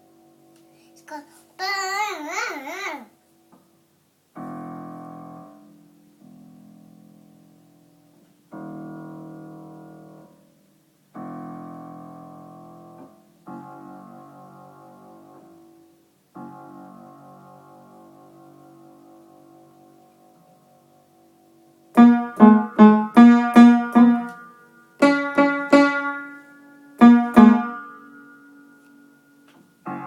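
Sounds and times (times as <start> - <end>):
piano chords ringing: 3.8 - 30.0.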